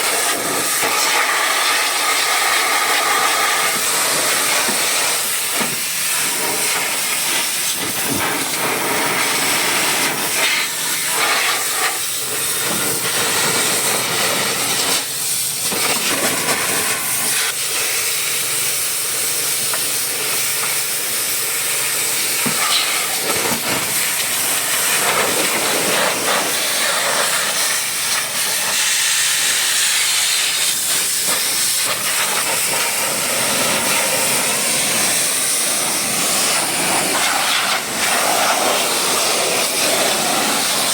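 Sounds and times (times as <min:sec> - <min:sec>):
pressure washer spraying water: 0:00.0 - 0:40.9.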